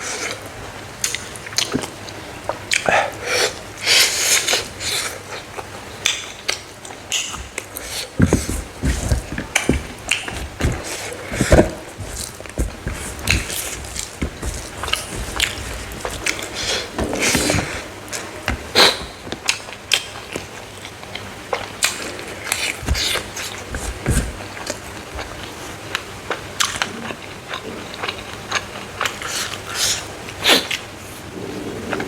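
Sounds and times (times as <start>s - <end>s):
crunchy food being chewed: 4.2s - 31.2s.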